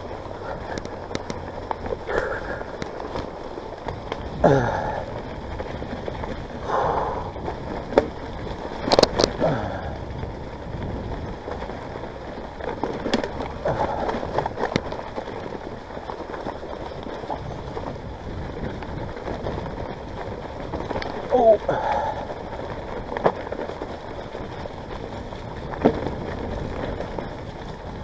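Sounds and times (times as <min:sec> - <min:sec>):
bike knocks and rattles: 0:00.0 - 0:28.0
bike tyres rolling through mud: 0:00.0 - 0:28.0.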